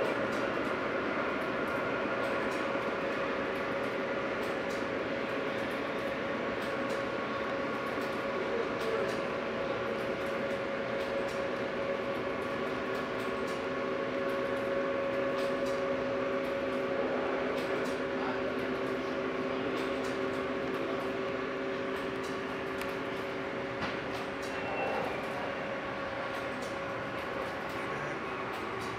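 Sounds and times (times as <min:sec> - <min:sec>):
model train rolling on track: 0:00.0 - 0:28.9.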